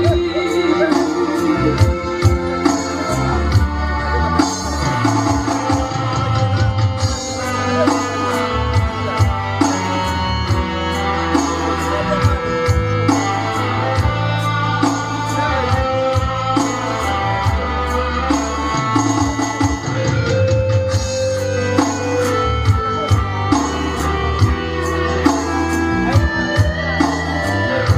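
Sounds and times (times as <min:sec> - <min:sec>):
electronic keyboard chords and bass: 0:00.0 - 0:27.9
programmed drum beat: 0:00.0 - 0:27.9.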